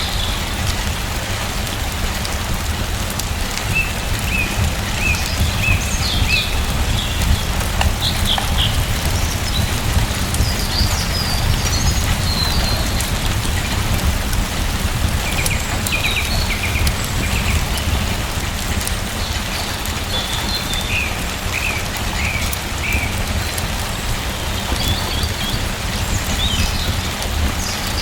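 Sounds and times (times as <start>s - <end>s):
steady rain falling: 0.0s - 28.0s
small birds chirping: 3.1s - 28.0s.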